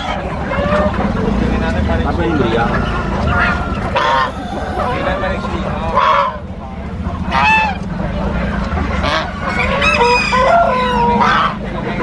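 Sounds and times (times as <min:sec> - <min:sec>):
steady low hum: 0:00.0 - 0:09.8
geese honking: 0:00.0 - 0:12.0.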